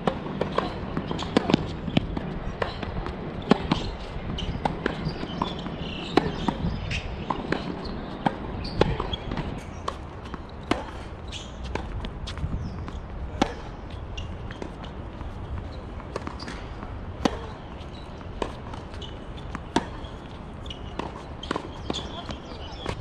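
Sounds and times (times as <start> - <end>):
racket hitting tennis ball: 0.0 - 12.4, 13.3 - 20.2, 20.9 - 23.0
tennis ball bouncing: 0.0 - 23.0.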